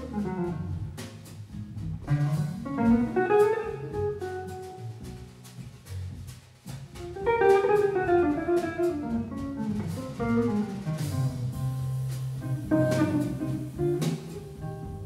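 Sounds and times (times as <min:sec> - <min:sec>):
bass line: 0:00.0 - 0:15.0
jazz guitar single notes: 0:00.0 - 0:15.0.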